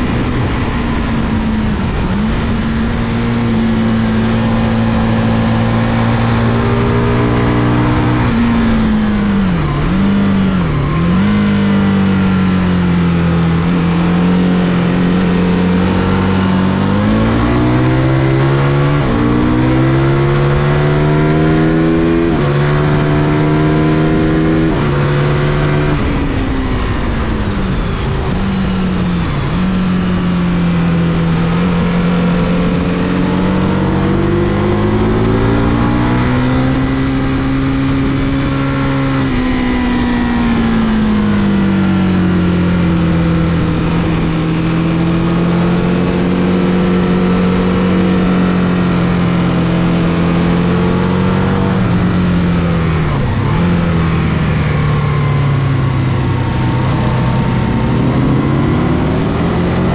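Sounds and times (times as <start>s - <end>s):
heavy wind rush: 0.0s - 59.9s
racing motorcycle engine: 0.0s - 59.9s.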